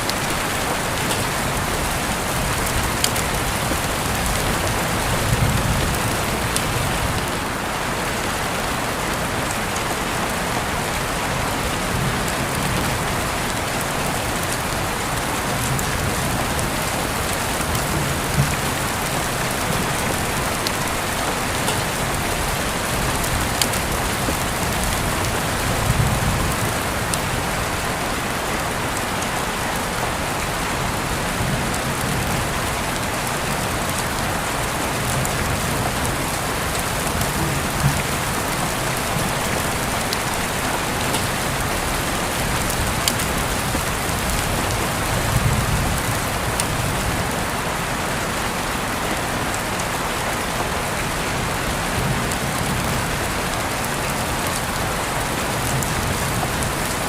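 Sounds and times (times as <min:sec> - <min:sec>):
rain hiss: 0:00.0 - 0:57.0.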